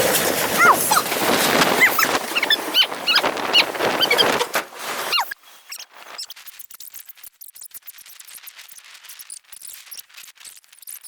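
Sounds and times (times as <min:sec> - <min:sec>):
rapid high-pitched clicks and squeaks: 0:00.0 - 0:11.0.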